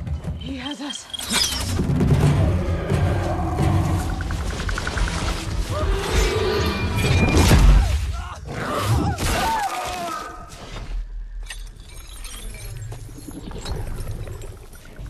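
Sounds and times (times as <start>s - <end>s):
dramatic film score: 0.0s - 15.0s.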